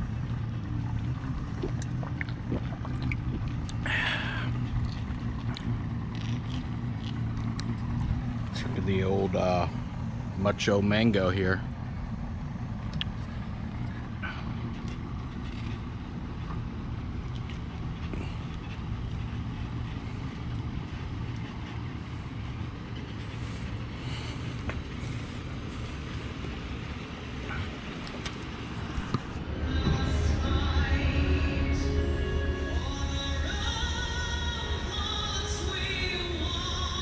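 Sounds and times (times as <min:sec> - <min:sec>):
truck engine low hum: 0:00.0 - 0:37.0.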